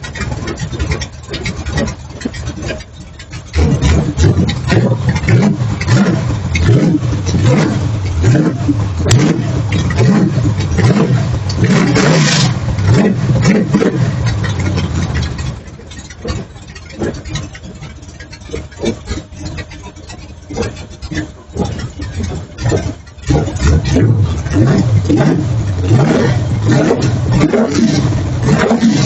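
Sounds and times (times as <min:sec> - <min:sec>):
engine revving: 0:00.0 - 0:29.0
scattered knocks and clicks: 0:00.0 - 0:29.0.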